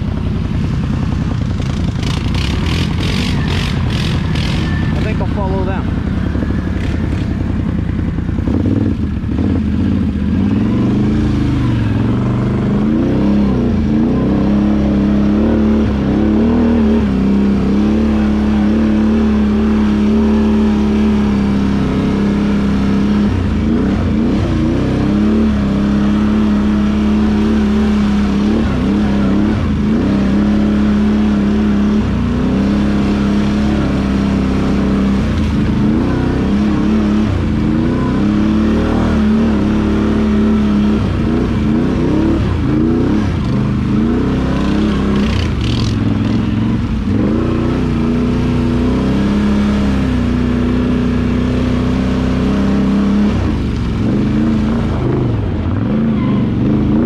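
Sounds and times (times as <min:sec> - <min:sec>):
atv engine running under throttle: 0:00.0 - 0:57.0.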